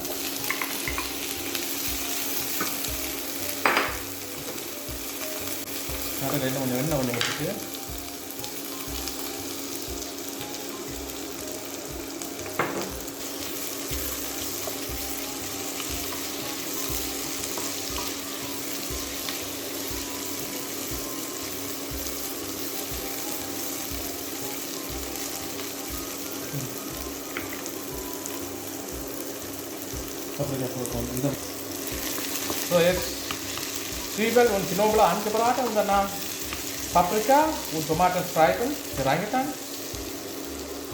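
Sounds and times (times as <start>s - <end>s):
vegetables sizzling in a pan: 0.0s - 40.9s.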